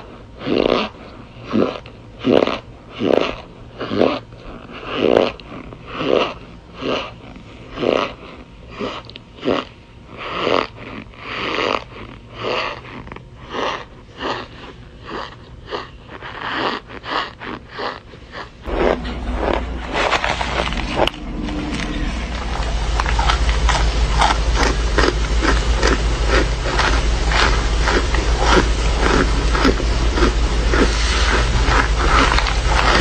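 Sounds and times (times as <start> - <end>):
chewing crunch: 0.0 - 33.0
loud crunching: 0.0 - 33.0
steady low rumble: 0.0 - 33.0.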